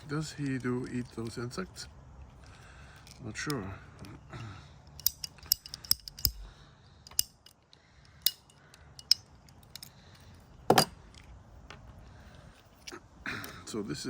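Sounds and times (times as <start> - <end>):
small hard parts clicking: 0.0 - 13.6.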